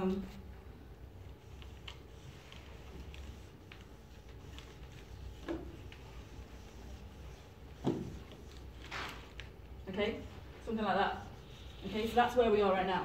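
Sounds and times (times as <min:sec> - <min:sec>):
low room hum: 0:00.0 - 0:13.0
marker scratching on paper: 0:01.3 - 0:09.3, 0:10.1 - 0:12.7.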